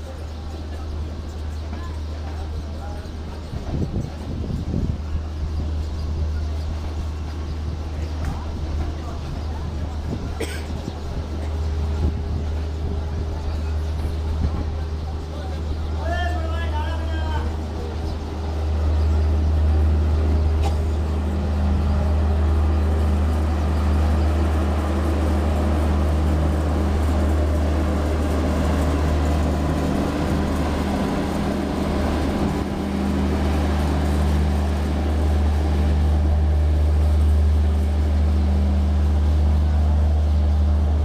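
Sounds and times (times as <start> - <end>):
passenger train rumbling on rails: 0.0 - 41.0.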